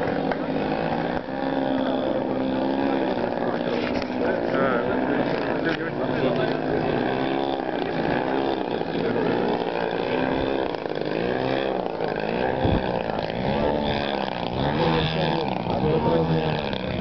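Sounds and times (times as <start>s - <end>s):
model plane engine and propeller: 0.0s - 17.0s.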